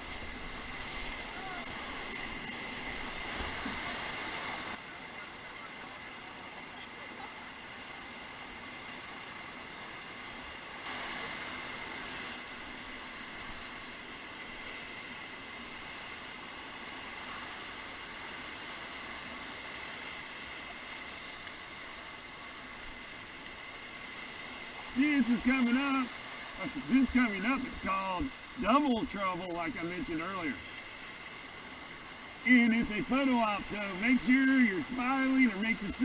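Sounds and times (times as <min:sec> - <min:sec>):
whitewater river rushing: 0:00.0 - 0:36.0.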